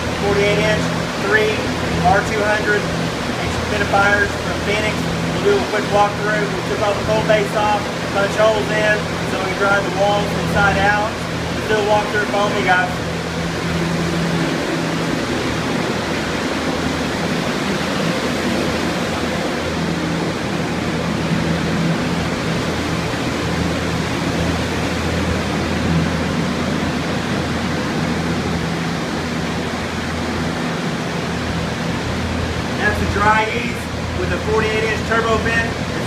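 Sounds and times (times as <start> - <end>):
fans and dehumidifiers running: 0.0 - 36.0.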